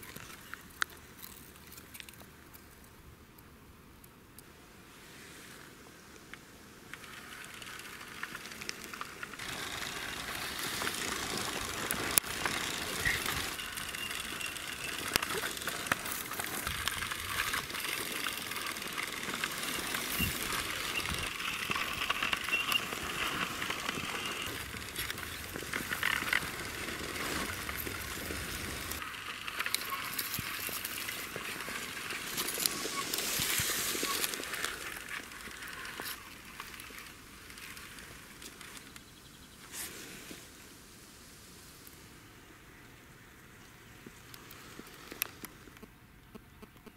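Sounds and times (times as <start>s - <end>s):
small clicks of grains: 0.0s - 3.0s, 6.1s - 40.5s, 43.6s - 46.9s
toy car wheels crunching on dirt: 0.0s - 3.0s, 5.6s - 42.0s, 43.4s - 46.9s.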